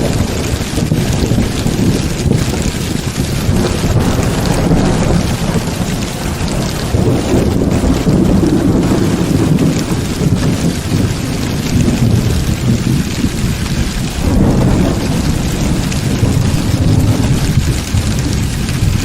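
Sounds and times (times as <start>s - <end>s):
heavy rain falling: 0.0s - 19.0s
low rolling thunder: 0.0s - 19.0s.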